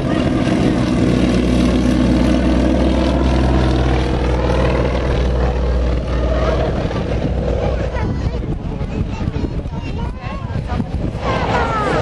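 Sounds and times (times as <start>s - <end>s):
propeller airplane flying low: 0.0s - 12.0s.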